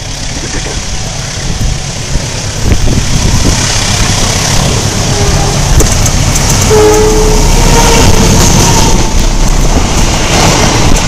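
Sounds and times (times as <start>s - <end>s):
train rumbling across bridge: 0.0s - 11.0s.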